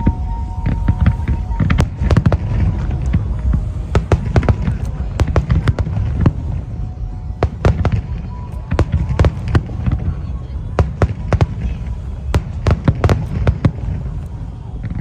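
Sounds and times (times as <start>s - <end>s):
fireworks bangs and crackles: 0.0s - 15.0s
low rumble of bursting shells: 0.0s - 15.0s.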